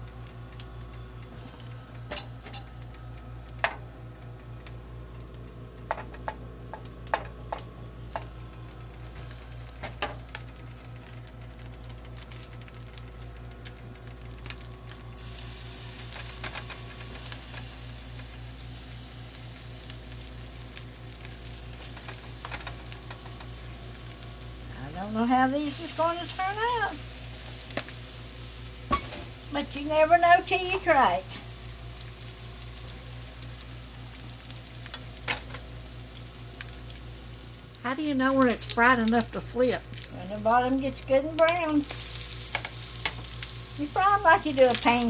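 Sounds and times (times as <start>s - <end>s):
batter sizzling in hot fat: 0.0s - 45.0s
steady low hum: 0.0s - 45.0s.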